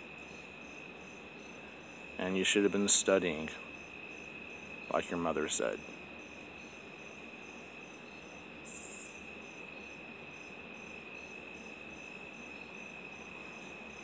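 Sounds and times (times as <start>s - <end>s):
crickets chirping: 0.0s - 14.0s
high insect buzz: 0.0s - 14.0s.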